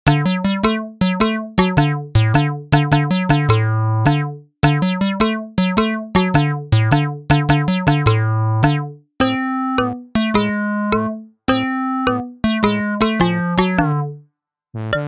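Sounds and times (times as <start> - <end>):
electronic keyboard tune: 0.0 - 14.2, 14.8 - 15.0.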